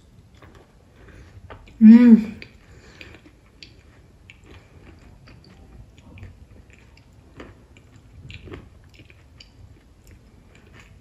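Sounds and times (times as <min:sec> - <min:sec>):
wet chewing: 0:00.3 - 0:11.0.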